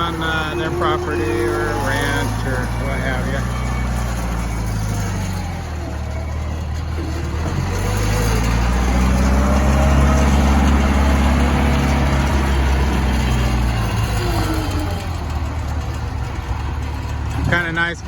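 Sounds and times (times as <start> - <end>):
backhoe diesel engine running: 0.0 - 18.0.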